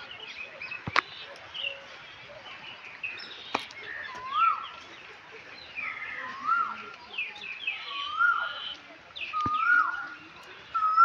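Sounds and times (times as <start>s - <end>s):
whistled bird call: 0.0s - 4.9s, 5.6s - 11.0s
birds chirping: 0.0s - 11.0s.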